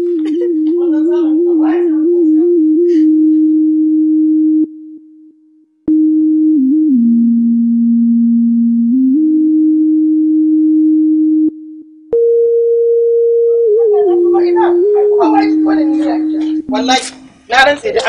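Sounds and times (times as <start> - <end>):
pure electronic tone: 0.0 - 17.5.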